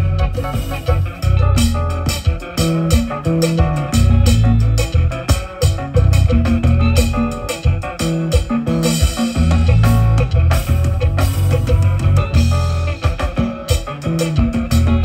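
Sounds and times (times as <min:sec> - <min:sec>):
band playing dance music: 0:00.0 - 0:15.0.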